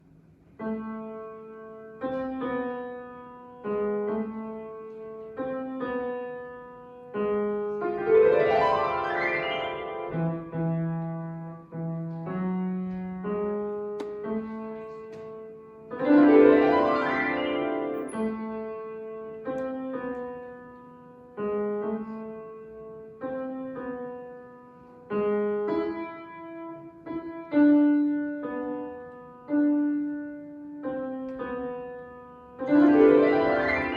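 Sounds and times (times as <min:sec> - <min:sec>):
solo piano melody: 0:00.0 - 0:33.9.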